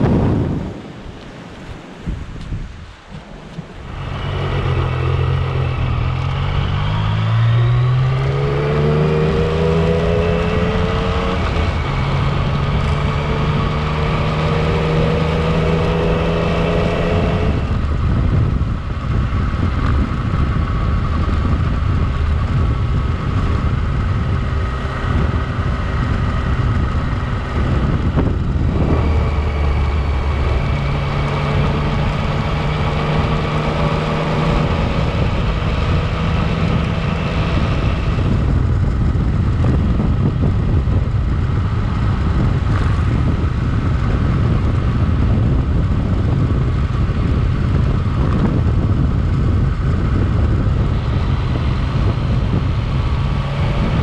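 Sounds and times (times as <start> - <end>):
motorcycle engine accelerating: 3.5 - 54.0.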